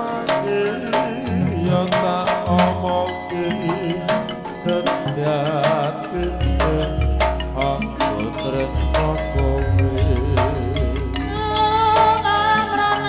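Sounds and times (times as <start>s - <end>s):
gamelan ensemble playing: 0.0s - 13.0s.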